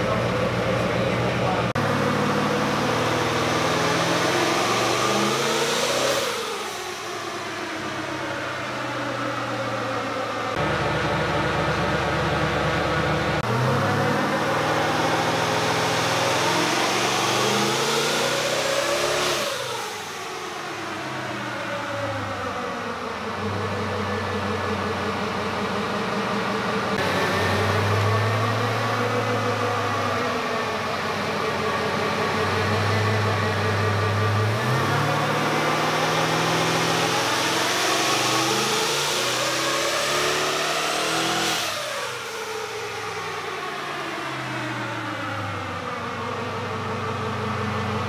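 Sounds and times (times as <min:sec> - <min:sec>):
engine revving on dyno: 0:00.0 - 0:48.0.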